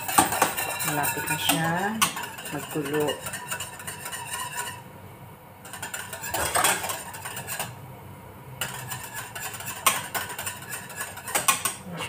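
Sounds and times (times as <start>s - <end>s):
whisk scraping in a saucepan: 0.0s - 5.0s, 5.6s - 7.8s, 8.6s - 12.0s.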